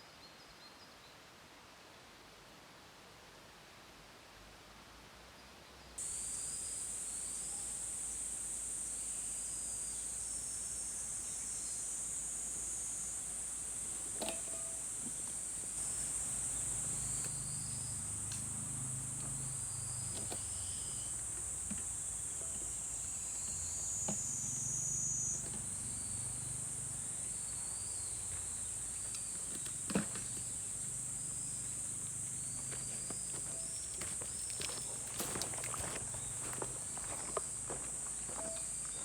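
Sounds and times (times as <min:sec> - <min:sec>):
insect chirps: 0:06.0 - 0:39.0
insects trilling: 0:06.0 - 0:39.0.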